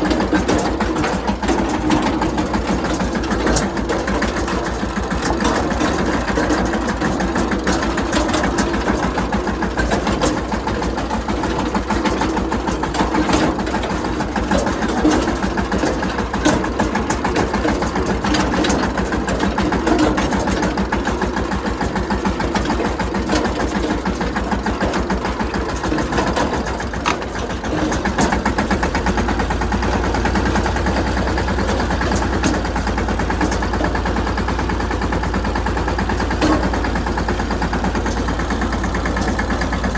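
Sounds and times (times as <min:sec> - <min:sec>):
tractor diesel engine thumping: 0:00.0 - 0:39.9.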